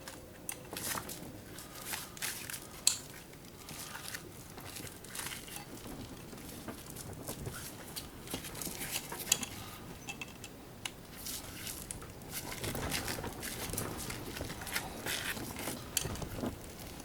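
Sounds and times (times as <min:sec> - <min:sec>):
small clicks and scrapes: 0:00.0 - 0:10.5, 0:11.1 - 0:17.0.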